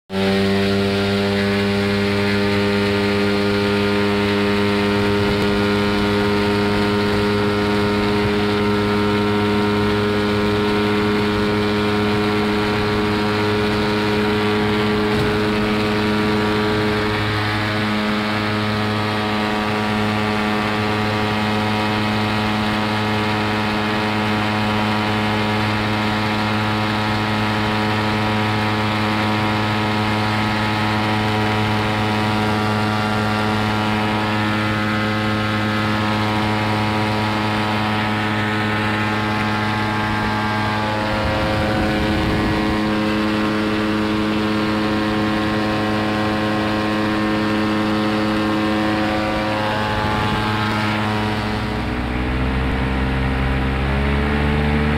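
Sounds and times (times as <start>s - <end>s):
light aircraft engine and propeller drone: 0.1s - 54.9s.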